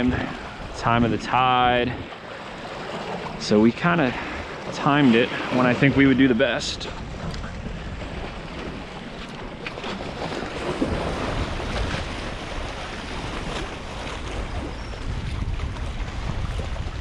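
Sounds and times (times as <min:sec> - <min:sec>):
waves splashing against rocks: 0:00.0 - 0:17.0
wind buffeting microphone: 0:00.0 - 0:17.0.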